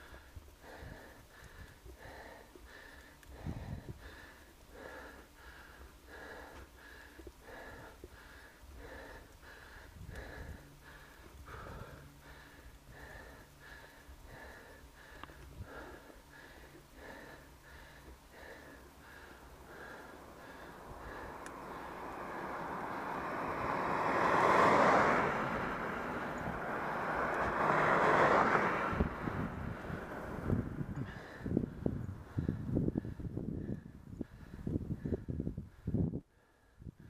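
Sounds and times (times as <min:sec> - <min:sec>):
person breathing hard: 0:00.0 - 0:37.0.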